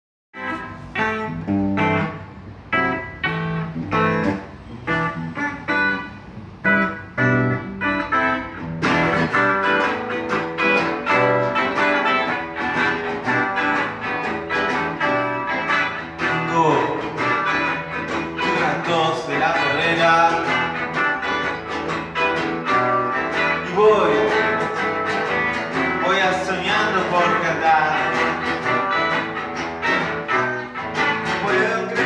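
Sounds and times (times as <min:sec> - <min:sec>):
guitar notes and chords: 0:00.4 - 0:32.0.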